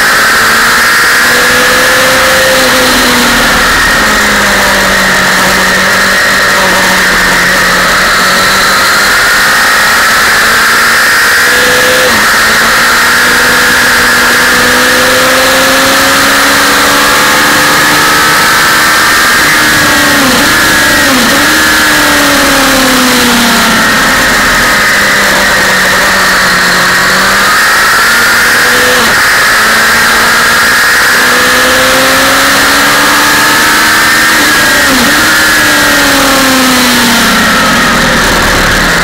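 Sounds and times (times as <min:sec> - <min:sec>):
motorcycle engine at speed: 0:00.0 - 0:39.0.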